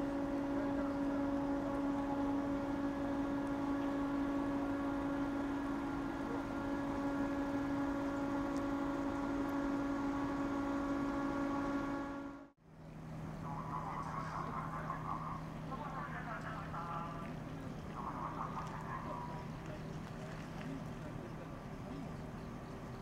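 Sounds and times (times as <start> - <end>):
low machinery drone: 0.0 - 23.0.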